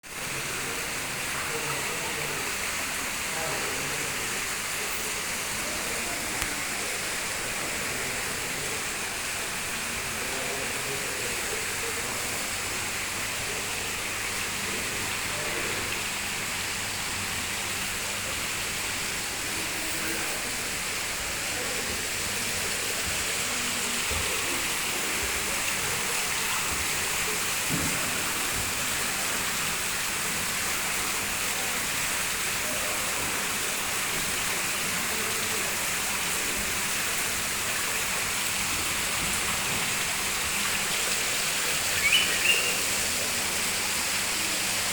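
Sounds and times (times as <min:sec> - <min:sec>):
faint voices: 0:00.0 - 0:44.9
rush of falling water: 0:00.0 - 0:44.9.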